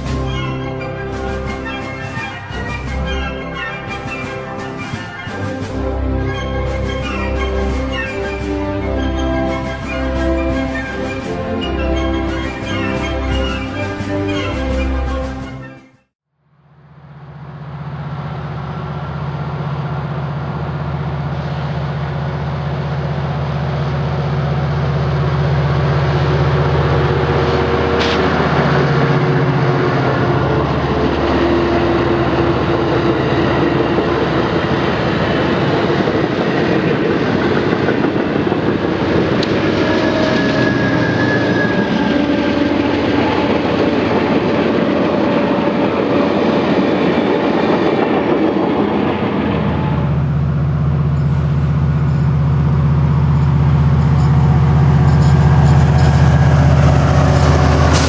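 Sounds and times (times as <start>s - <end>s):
train cars rumbling over rails: 0.0s - 16.0s, 16.8s - 58.0s
diesel locomotive engine drone: 0.0s - 58.0s.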